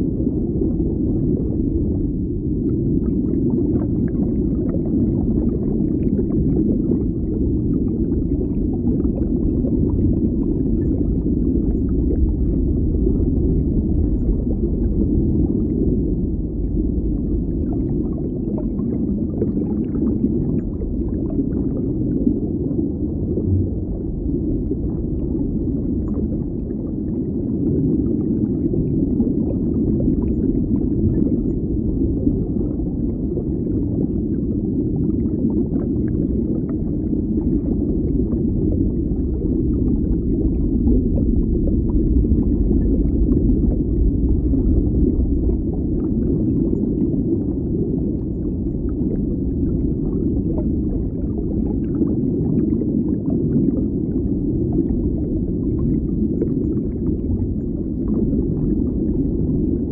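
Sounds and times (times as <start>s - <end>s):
muffled underwater rumble: 0.0s - 59.9s.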